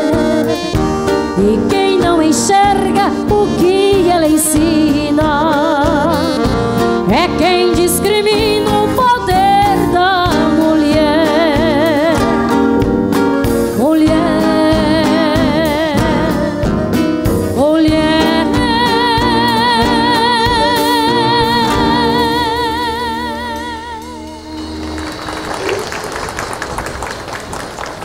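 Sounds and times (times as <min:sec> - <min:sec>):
woman singing with vibrato: 0:00.0 - 0:12.8, 0:13.6 - 0:16.8, 0:17.5 - 0:25.3
live band playing: 0:00.0 - 0:28.0.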